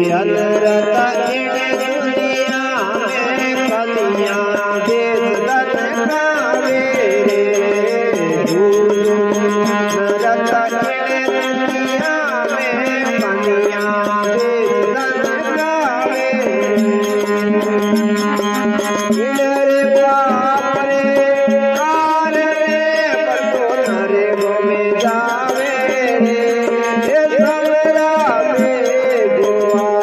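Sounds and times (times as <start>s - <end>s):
ornamented melody line: 0.0s - 30.0s
tabla rhythm: 0.0s - 30.0s.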